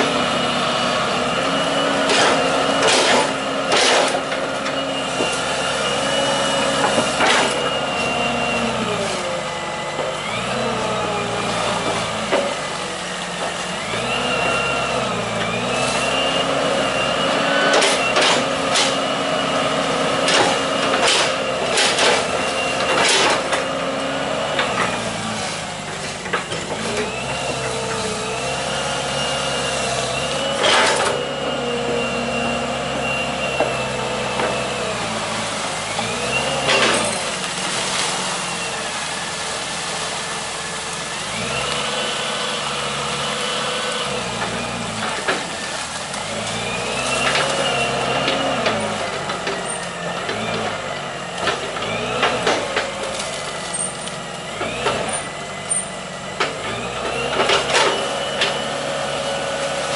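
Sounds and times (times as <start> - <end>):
excavator diesel engine working: 0.0 - 59.9
hydraulic whine: 0.0 - 59.9.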